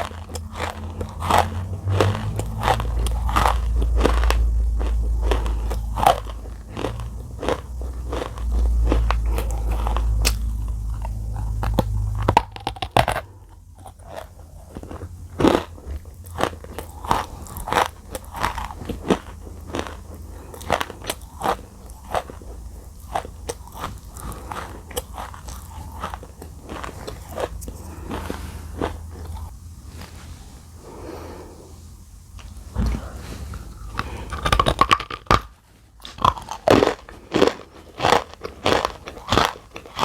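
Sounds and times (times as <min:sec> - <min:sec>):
crunchy chewing: 0:00.0 - 0:31.5, 0:32.4 - 0:40.0
low steady hum: 0:00.0 - 0:40.0.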